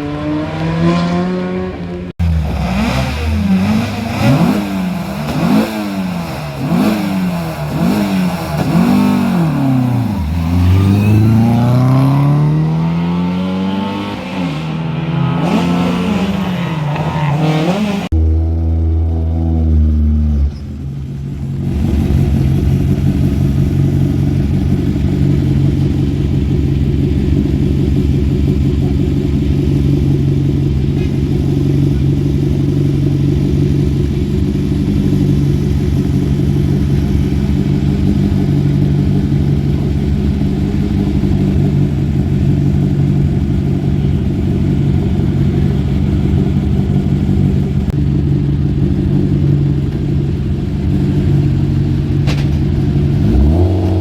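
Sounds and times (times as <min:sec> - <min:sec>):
rally car engine running steadily: 0:00.0 - 0:54.0.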